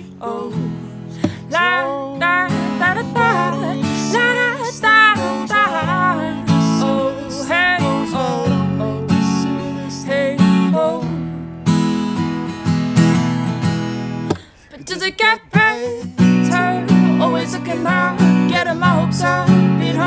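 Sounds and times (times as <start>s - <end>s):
woman singing wordless vocals: 0.0s - 11.4s, 14.6s - 20.0s
acoustic guitar strumming chords: 0.0s - 20.0s.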